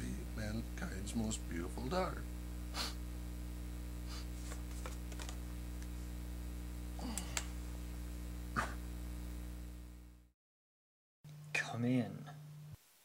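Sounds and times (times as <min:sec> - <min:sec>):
low electrical hum: 0:00.0 - 0:10.3, 0:11.3 - 0:13.0.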